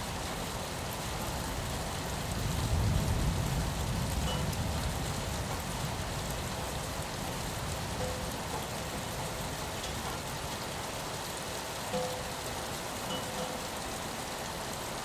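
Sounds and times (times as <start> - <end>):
rain on a window pane: 0.0 - 15.0.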